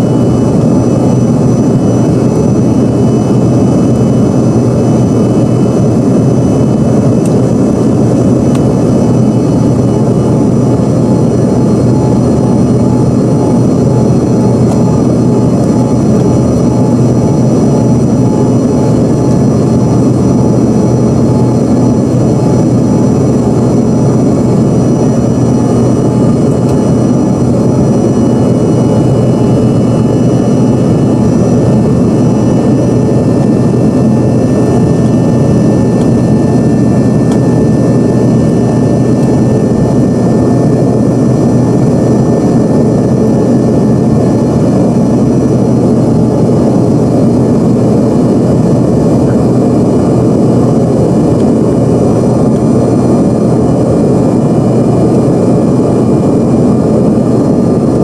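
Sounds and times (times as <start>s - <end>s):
high-pitched whine: 0.0s - 58.0s
jet engine cabin drone: 0.0s - 58.0s.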